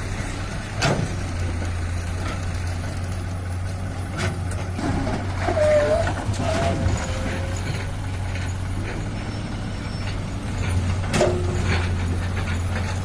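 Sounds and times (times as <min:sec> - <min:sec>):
heavy diesel engines running: 0:00.0 - 0:13.0.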